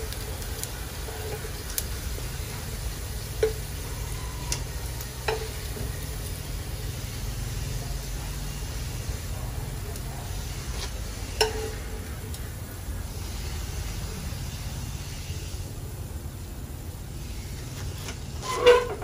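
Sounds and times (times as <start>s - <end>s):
oil sizzling in a frying pan: 0.0s - 19.0s.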